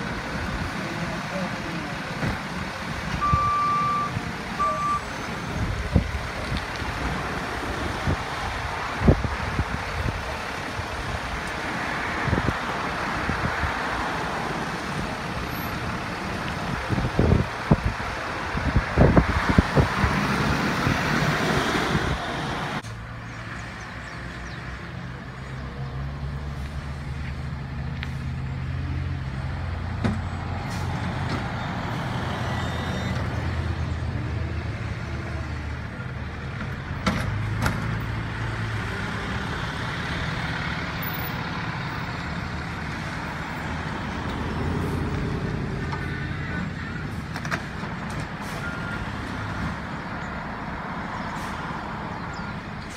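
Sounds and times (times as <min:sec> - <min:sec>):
road noise: 0:00.0 - 0:52.9
truck engines droning: 0:00.0 - 0:52.9.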